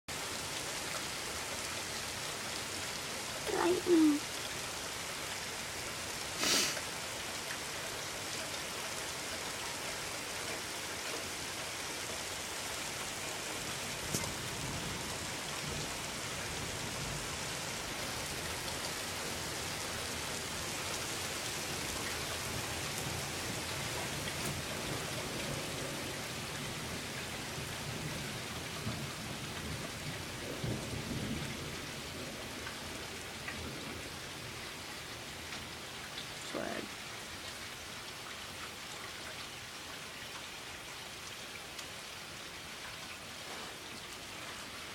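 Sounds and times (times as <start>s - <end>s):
steady rain: 0.1s - 44.9s.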